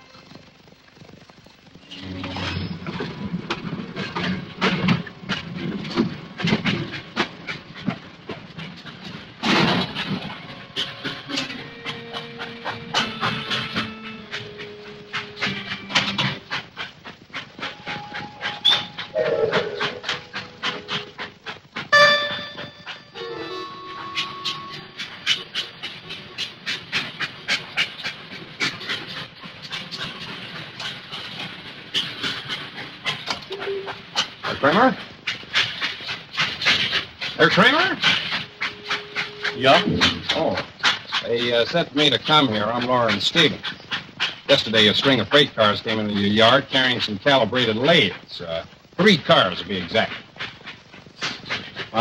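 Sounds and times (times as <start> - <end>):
steam hiss: 0.0 - 52.0
freight cars clanking: 1.8 - 52.0.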